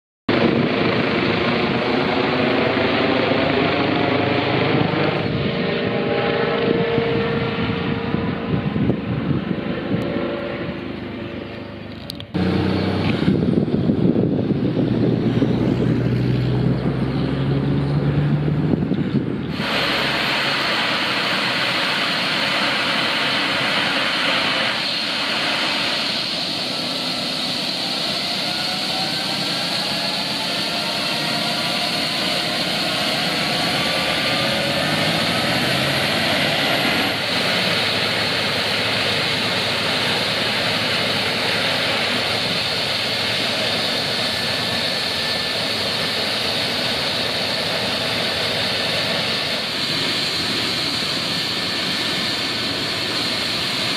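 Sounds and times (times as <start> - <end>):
rising whining tones: 0.3 - 52.9
helicopter turbine roar and whine: 0.3 - 53.9.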